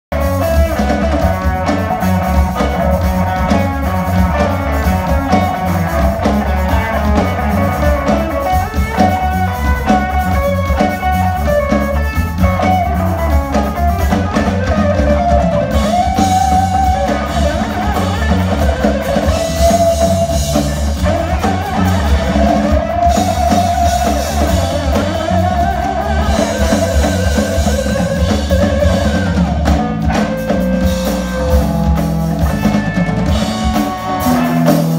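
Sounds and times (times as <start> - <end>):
drums: 0.0 - 34.9
electric bass: 0.0 - 34.9
electric guitar: 0.1 - 34.9.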